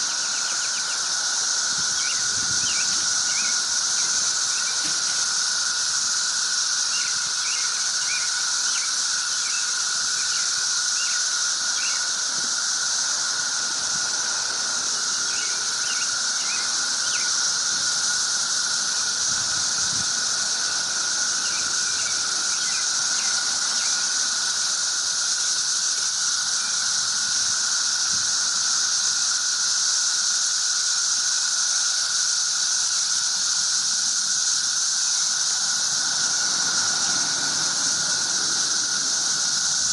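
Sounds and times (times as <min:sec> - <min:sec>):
cicada high-pitched drone: 0:00.0 - 0:39.9.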